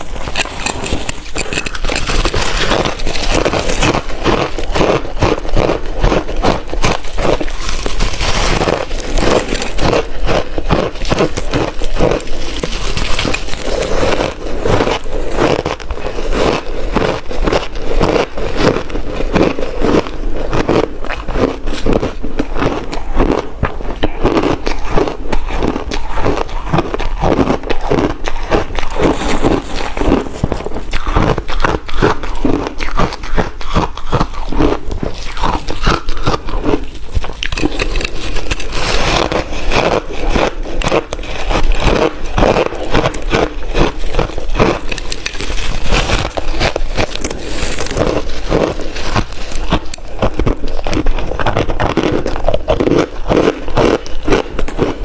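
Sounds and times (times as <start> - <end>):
chewing ice crunches: 0.0 - 55.0.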